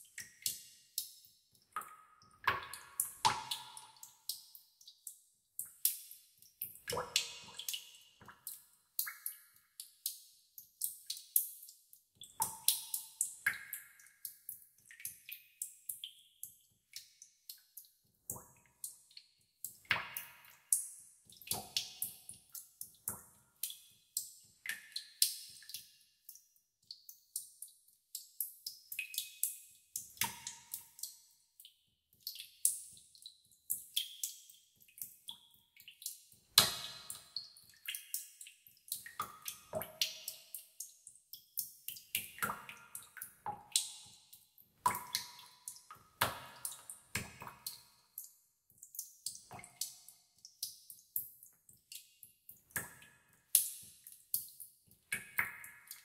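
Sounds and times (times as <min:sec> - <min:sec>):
water drops plinking into water: 0:00.0 - 0:56.0.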